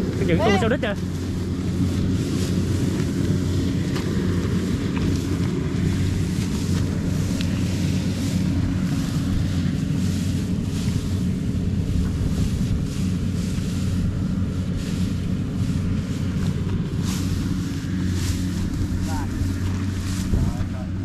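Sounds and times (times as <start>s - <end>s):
harvester engine drone: 0.0s - 21.0s
straw rustling underfoot: 0.0s - 21.0s
wind buffeting microphone: 0.0s - 21.0s.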